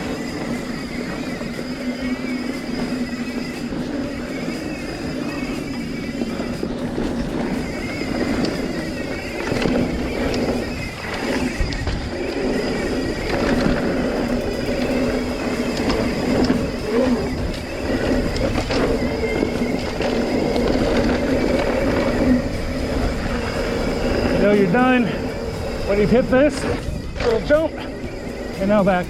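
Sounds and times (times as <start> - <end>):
bike tyres on dirt trail: 0.0 - 29.0
wind rushing over microphone: 0.0 - 29.0.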